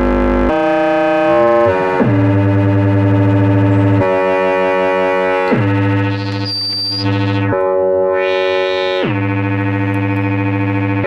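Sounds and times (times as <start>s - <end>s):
synthesizer drone with sliding pitch: 0.0s - 11.0s.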